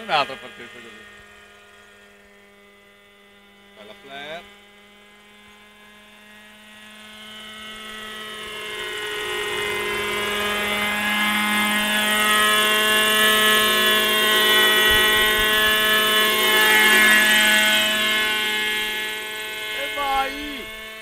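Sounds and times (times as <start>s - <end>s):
model helicopter engine and rotors: 0.0s - 21.0s.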